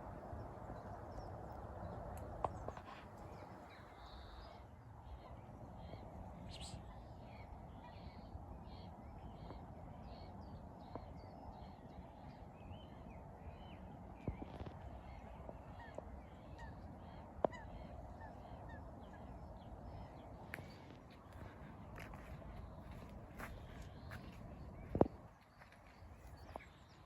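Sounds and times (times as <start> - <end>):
waterbirds calling: 0.0 - 27.0.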